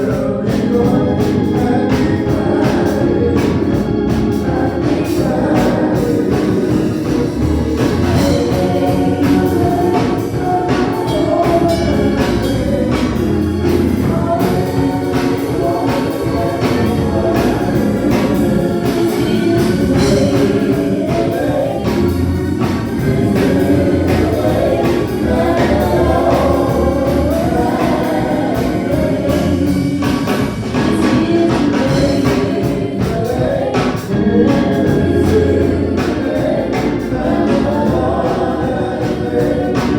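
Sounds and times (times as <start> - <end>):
bass line: 0.0 - 39.9
choir singing gospel song: 0.0 - 39.9
steady beat: 0.0 - 39.9.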